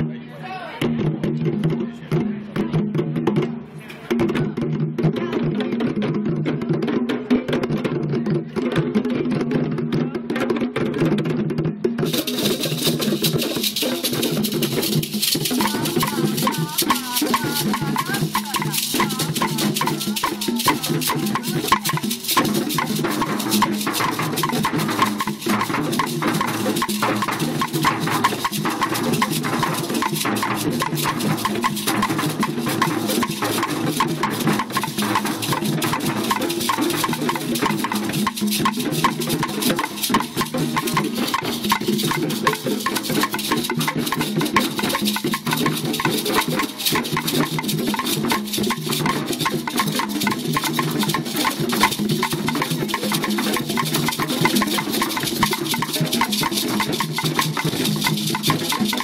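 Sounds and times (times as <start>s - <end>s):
hand drums playing rhythm: 0.8s - 59.0s.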